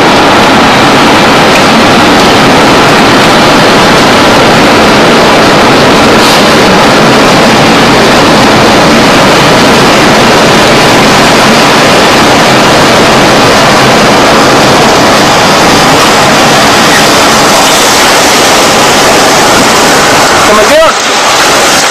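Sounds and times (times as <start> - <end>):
very loud wind on microphone: 0.0 - 21.9.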